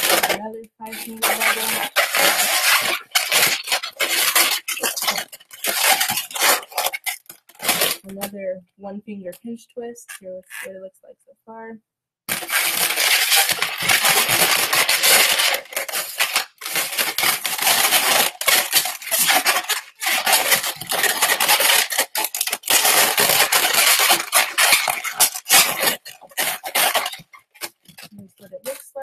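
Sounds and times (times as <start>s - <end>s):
latex balloon squeaking and rubbing: 0.0s - 8.4s, 10.0s - 10.7s, 12.3s - 29.0s.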